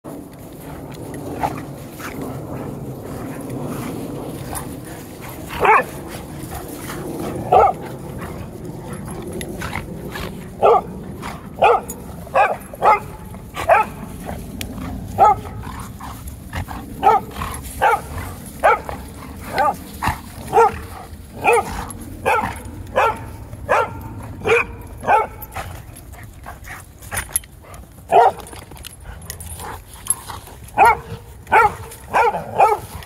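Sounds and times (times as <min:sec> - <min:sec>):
dogs barking: 0:01.4 - 0:33.0.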